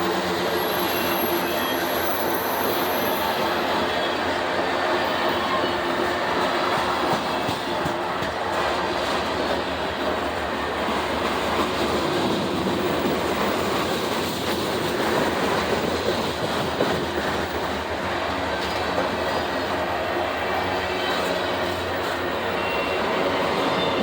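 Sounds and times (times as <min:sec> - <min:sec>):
train wheels rolling on rails: 0:00.0 - 0:24.0.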